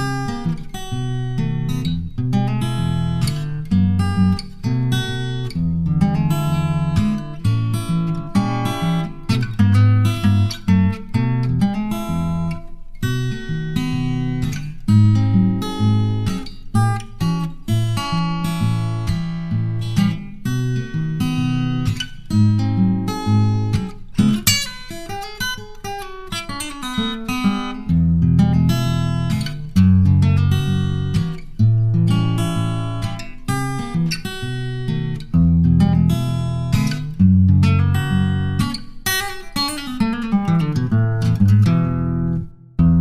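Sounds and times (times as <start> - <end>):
acoustic guitar music: 0.0 - 43.0.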